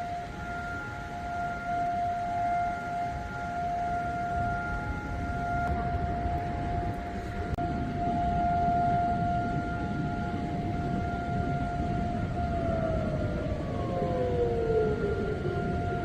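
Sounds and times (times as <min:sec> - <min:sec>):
siren steady tone: 0:00.0 - 0:16.0.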